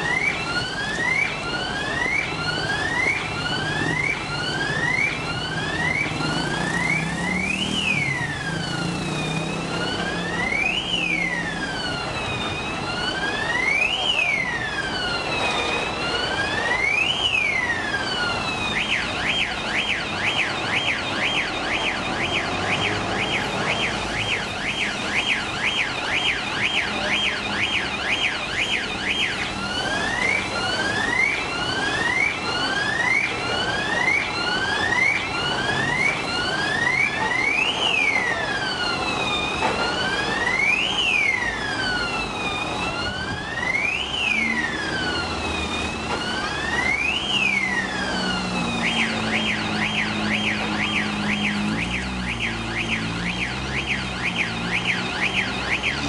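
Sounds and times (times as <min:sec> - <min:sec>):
alarm siren cycling tones: 0:00.0 - 0:56.0.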